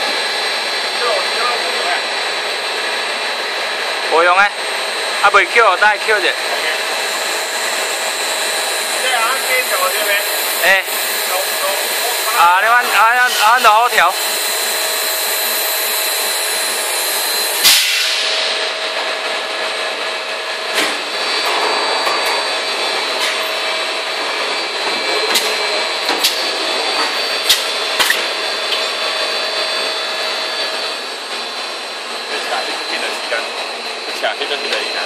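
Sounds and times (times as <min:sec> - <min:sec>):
machine mechanical drone: 0:00.0 - 0:35.0.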